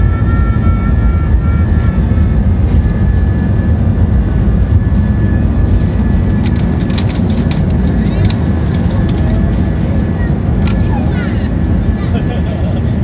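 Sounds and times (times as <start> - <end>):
jet engines rumbling: 0.0 - 13.0
thin steady whine: 0.0 - 13.0.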